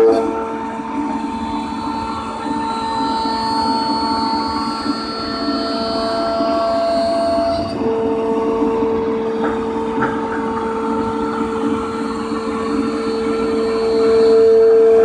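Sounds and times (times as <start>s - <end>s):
cnc router spindle whining: 0.0s - 15.0s
machine hum: 0.0s - 15.0s.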